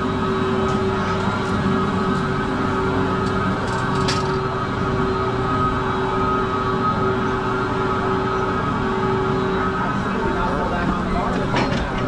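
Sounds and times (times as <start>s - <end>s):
high machine whine: 0.0s - 12.0s
machinery hum: 0.0s - 12.0s.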